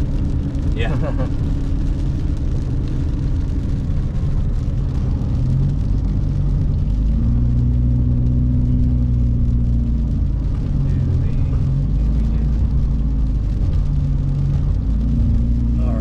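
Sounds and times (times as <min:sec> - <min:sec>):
car engine hum: 0:00.0 - 0:16.0
road noise inside car: 0:00.0 - 0:16.0.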